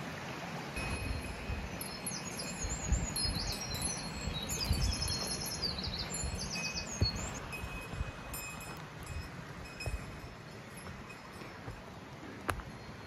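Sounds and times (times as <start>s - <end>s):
songbirds singing: 0.8s - 13.0s.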